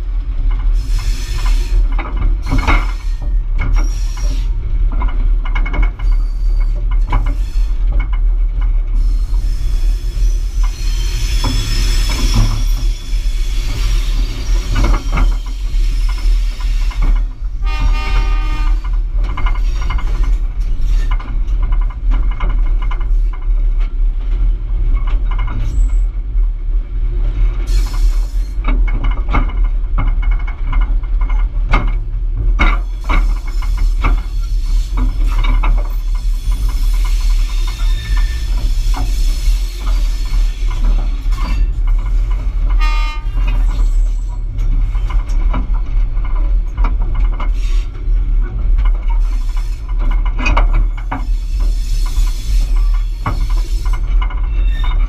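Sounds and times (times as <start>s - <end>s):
locomotive low rumble: 0.0s - 55.0s
wheels clicking on track: 0.0s - 55.0s.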